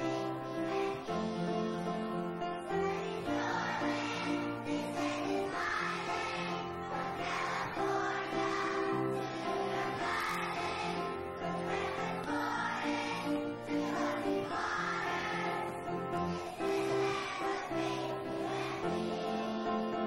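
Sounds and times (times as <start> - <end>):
children's choir singing: 0.0 - 20.0.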